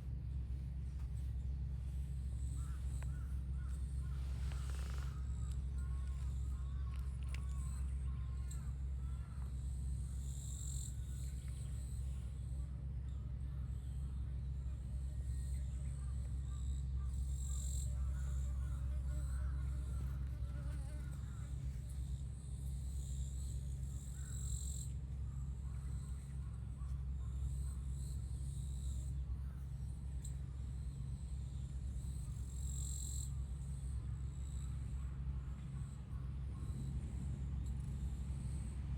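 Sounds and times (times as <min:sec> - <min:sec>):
high insect drone: 0:01.2 - 0:38.9.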